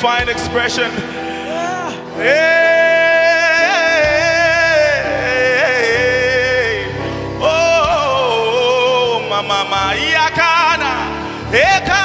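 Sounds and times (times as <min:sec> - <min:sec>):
gospel lead vocal with vibrato: 0:00.0 - 0:12.0
sustained accompaniment: 0:00.0 - 0:12.0.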